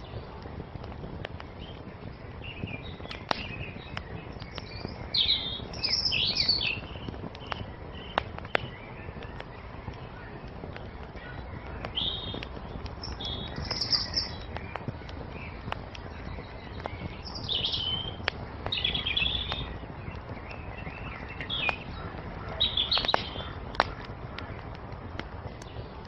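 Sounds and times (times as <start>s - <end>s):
songbirds chirping: 0.0s - 26.0s
steady low rumble: 0.0s - 26.0s
wood fire crackling and popping: 0.0s - 26.0s.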